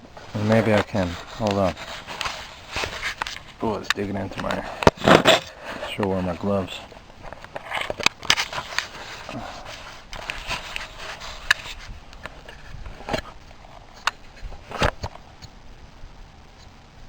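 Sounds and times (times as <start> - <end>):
rustling and scraping: 0.0 - 15.5.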